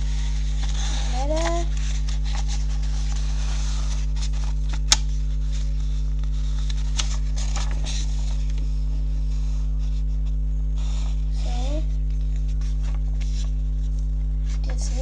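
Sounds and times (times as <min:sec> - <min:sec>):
paper rustling and crackling: 0:00.0 - 0:11.3, 0:11.9 - 0:15.0
low electrical hum: 0:00.0 - 0:15.0.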